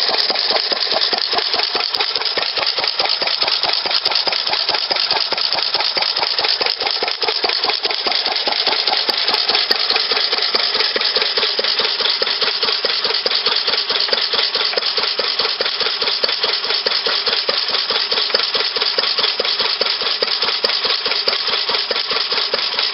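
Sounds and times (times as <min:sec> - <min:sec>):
stationary gas engine running: 0:00.0 - 0:22.9.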